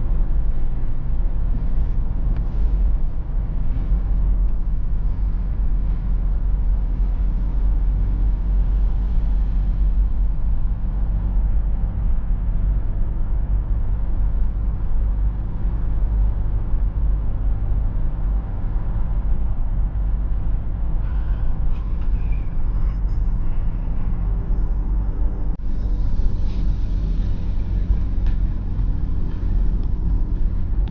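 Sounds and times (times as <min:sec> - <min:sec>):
diesel engine drone: 0:00.0 - 0:30.9
tyre and road noise: 0:00.0 - 0:30.9.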